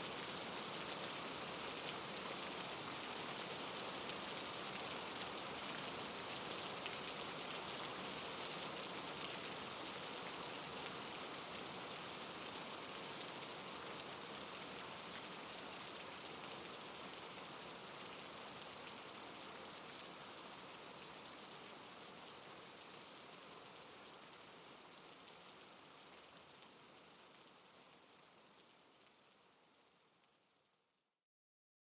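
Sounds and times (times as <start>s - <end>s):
soft rain pattering: 0.0s - 31.2s.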